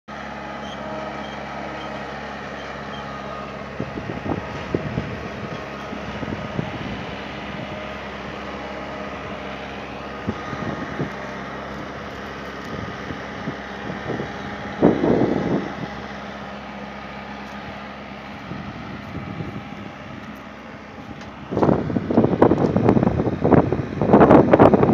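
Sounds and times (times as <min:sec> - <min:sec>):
tractor engine running: 0:00.1 - 0:24.9.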